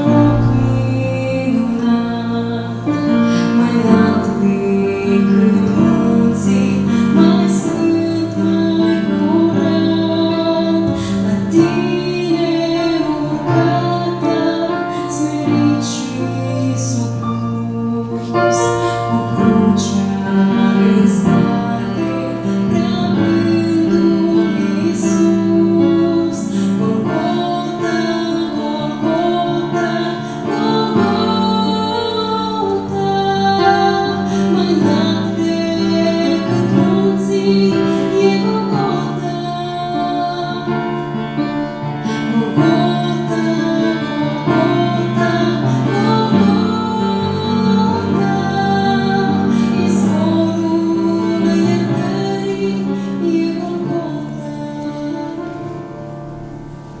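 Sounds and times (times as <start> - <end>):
instrumental accompaniment: 0.0 - 57.0
woman singing worship song: 0.0 - 57.0.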